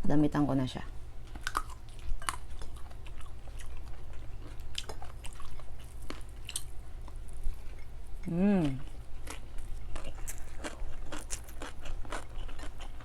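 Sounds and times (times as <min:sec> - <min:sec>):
low steady hum: 0:00.0 - 0:13.0
chewing and wet mouth sounds: 0:01.2 - 0:13.0.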